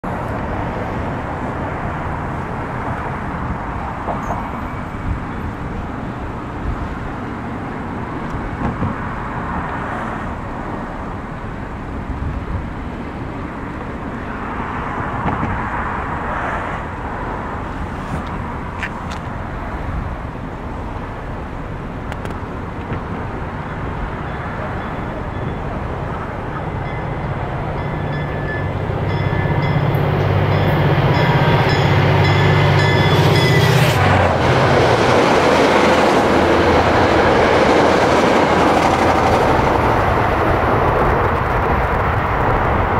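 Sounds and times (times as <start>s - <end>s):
road traffic passing: 0.0s - 42.9s.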